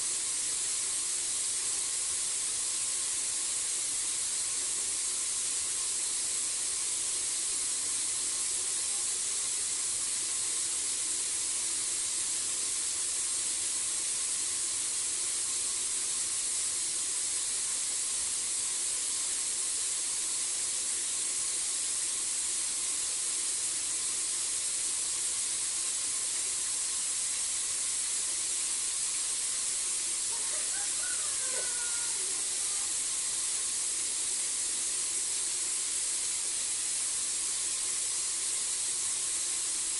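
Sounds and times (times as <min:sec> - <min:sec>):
night outdoor hiss: 0:00.0 - 0:39.9.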